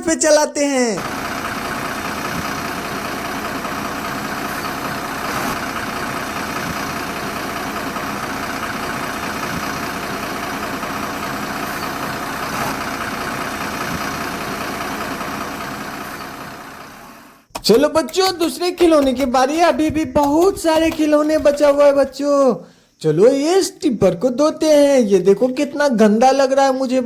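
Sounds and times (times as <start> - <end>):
truck engine running: 1.0 - 22.3, 24.0 - 27.0.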